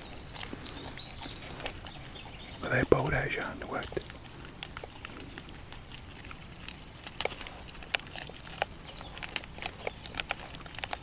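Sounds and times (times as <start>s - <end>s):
boars feeding crunches and clicks: 0.0s - 11.0s.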